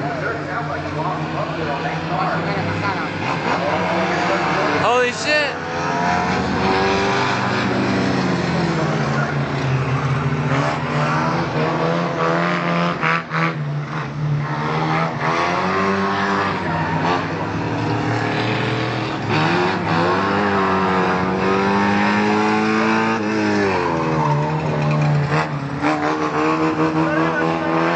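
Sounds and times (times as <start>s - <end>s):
race car engines revving: 0.0s - 27.9s.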